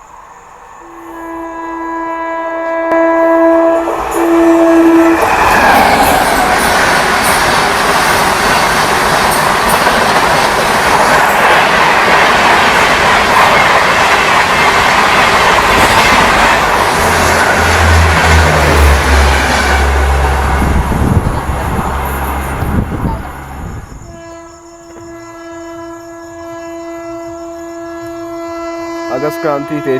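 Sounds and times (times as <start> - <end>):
train wheels rumbling on rails: 3.5 - 29.9.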